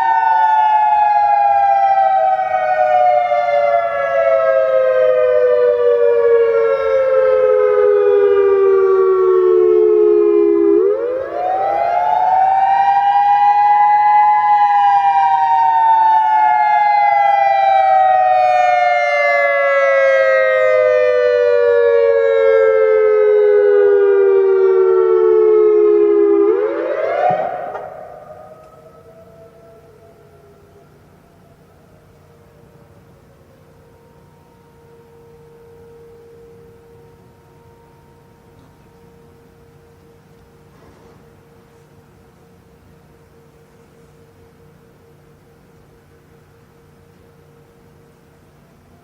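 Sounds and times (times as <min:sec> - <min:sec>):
warning siren wailing: 0:00.0 - 0:48.0.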